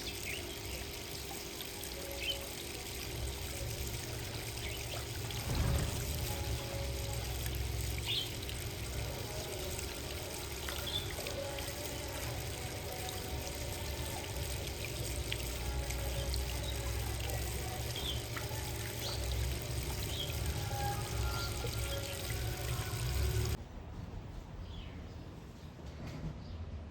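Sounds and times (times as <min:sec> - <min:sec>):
water trickling and splashing: 0:00.0 - 0:23.6.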